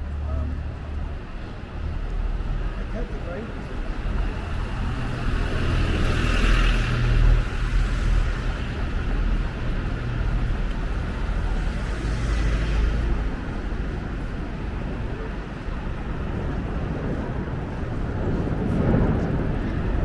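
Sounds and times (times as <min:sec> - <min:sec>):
bus engine rumbling: 0:00.0 - 0:20.0
light city traffic: 0:00.0 - 0:20.0.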